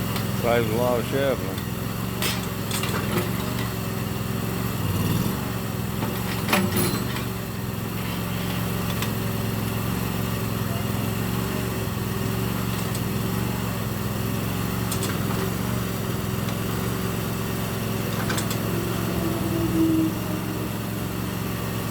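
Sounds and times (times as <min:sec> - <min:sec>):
small gasoline engine running: 0:00.0 - 0:21.9.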